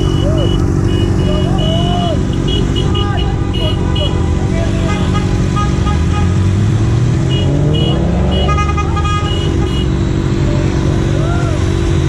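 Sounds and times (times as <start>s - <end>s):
horn toots: 0.0s - 6.6s, 7.2s - 11.2s
motorcycle engine revving: 0.0s - 12.0s.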